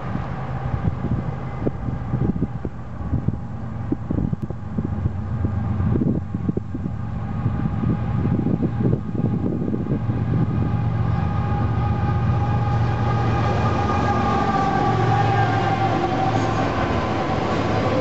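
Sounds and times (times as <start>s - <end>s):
diesel locomotive engine drone: 0.0s - 18.0s
rail noise: 0.0s - 18.0s
wind buffeting microphone: 0.0s - 18.0s.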